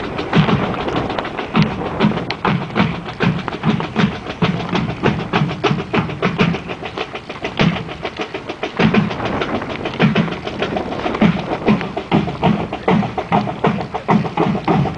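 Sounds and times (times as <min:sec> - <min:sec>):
deep drum beats: 0:00.0 - 0:14.9
snare drum strokes: 0:00.0 - 0:14.9.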